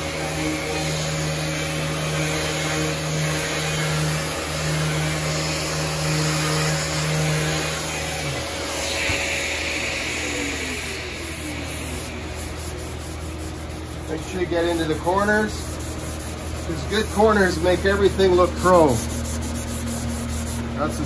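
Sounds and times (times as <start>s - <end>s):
electric sander motor hum: 0.0s - 20.5s.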